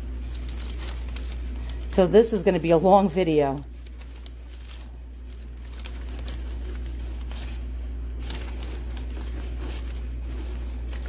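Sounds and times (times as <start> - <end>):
cloth and paper rustling: 0.0 - 11.0
steady low hum: 0.0 - 11.0.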